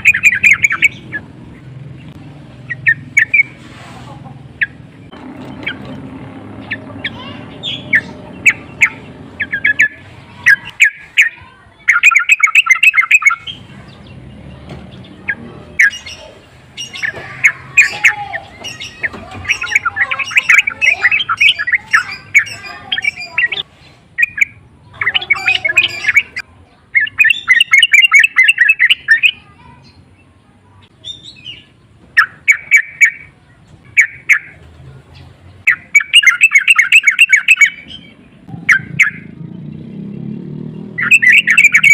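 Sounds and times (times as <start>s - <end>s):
bulbul chattering calls: 0.0s - 41.9s.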